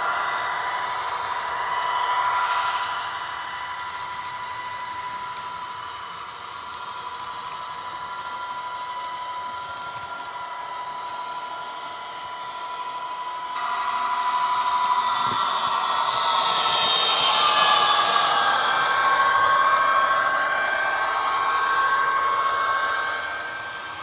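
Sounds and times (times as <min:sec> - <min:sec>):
model train diesel engine drone: 0:00.0 - 0:24.0.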